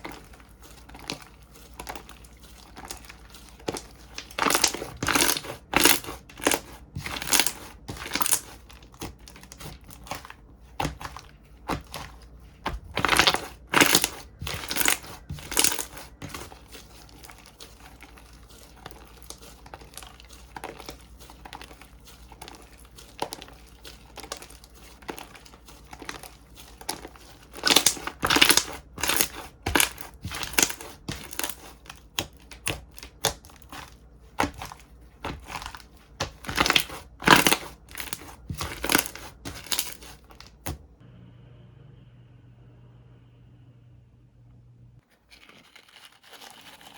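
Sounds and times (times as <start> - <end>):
slime crackling and popping: 0.0 - 40.8.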